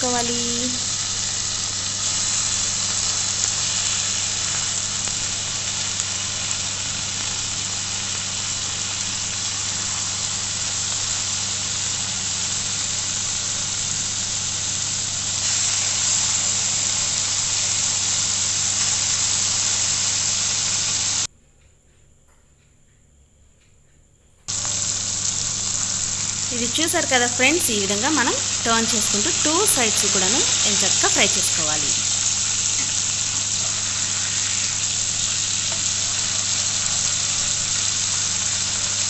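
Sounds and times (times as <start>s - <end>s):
meat sizzling in butter: 0.0s - 21.3s, 24.5s - 39.0s.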